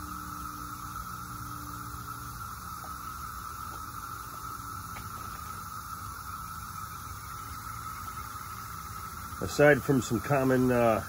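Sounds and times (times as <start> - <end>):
mid-pitched hum: 0.0 - 11.0.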